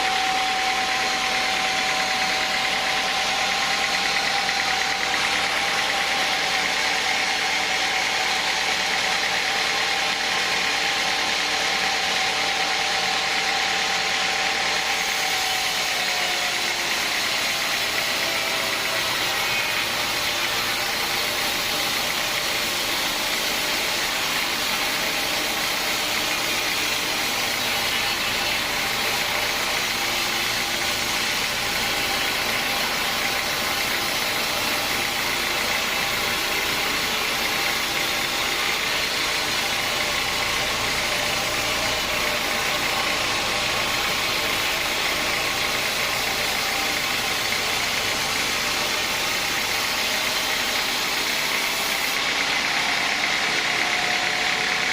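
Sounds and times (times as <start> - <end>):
sawmill machinery drone: 0.0 - 54.9.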